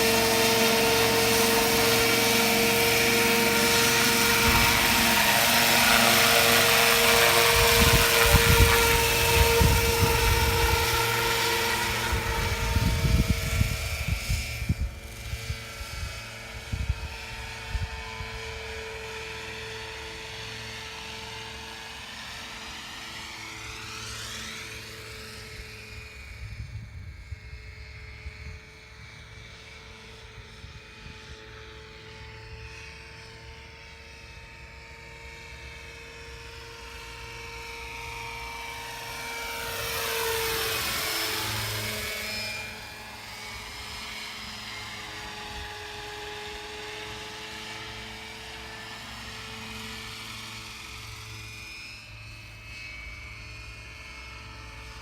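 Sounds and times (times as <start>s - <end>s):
model helicopter high whine: 0.0s - 55.0s.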